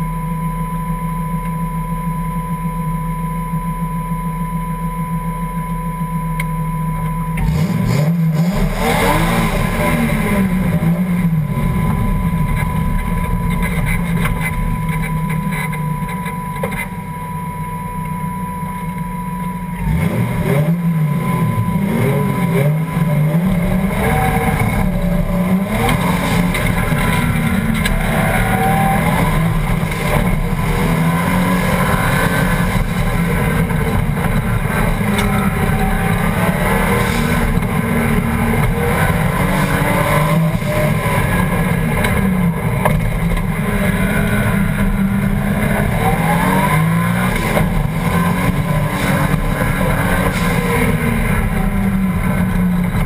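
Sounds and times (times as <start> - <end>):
race car engine revving: 7.2 - 53.0.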